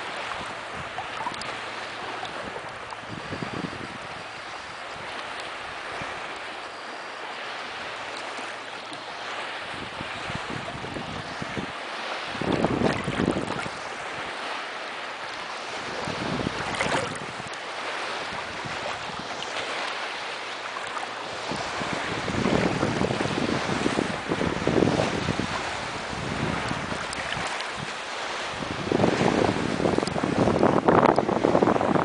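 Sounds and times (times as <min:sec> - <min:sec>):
river water sloshing and splashing: 0:00.0 - 0:32.0
wind buffeting microphone: 0:00.0 - 0:32.0.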